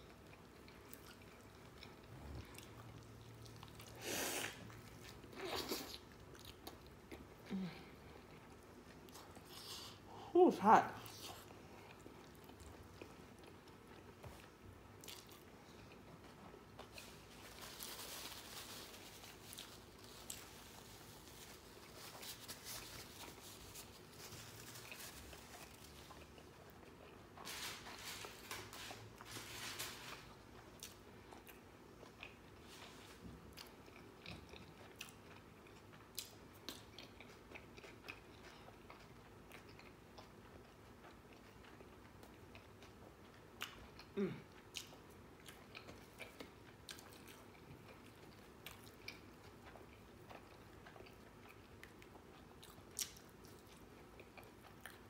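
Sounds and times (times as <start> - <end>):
chewing and biting food: 0.0 - 10.0, 11.0 - 29.4, 30.1 - 55.0.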